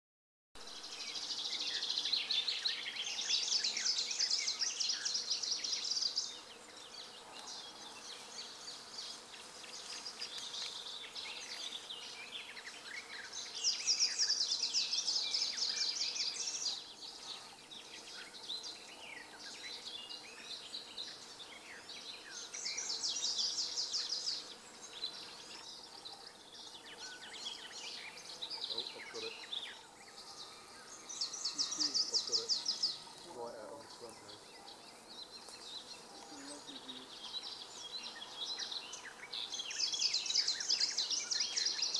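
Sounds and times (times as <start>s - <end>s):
faint bird chirps: 0.6s - 41.9s
warbler singing: 0.6s - 41.9s.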